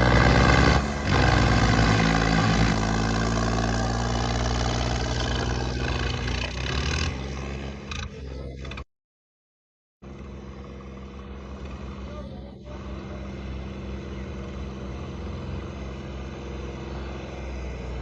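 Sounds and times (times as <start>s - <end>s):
tractor engines under heavy load: 0.0s - 8.9s, 10.0s - 18.0s.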